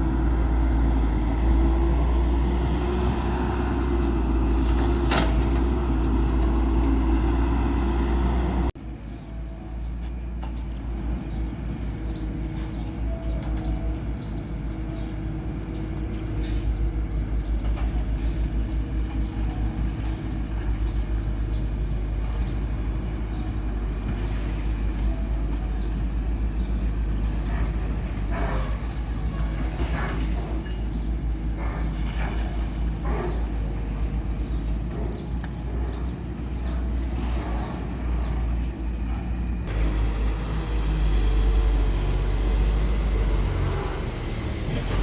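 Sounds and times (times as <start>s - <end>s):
diesel machinery engine rumble: 0.0s - 45.0s.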